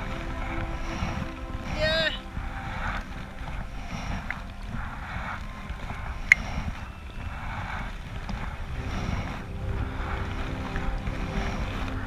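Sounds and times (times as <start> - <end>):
kayak paddle swishing in water: 0.0 - 12.0
wind rumbling on microphone: 0.0 - 12.0.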